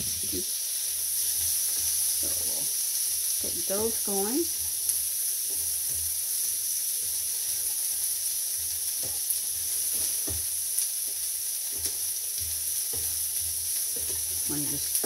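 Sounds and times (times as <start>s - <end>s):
vegetables sizzling on a griddle: 0.0s - 15.0s.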